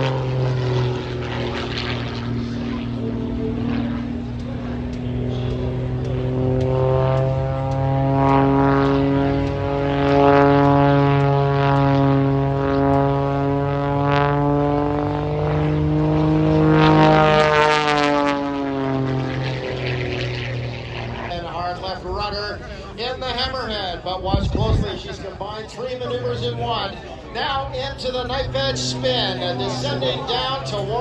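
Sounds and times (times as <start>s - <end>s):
propeller plane engine: 0.0s - 31.0s.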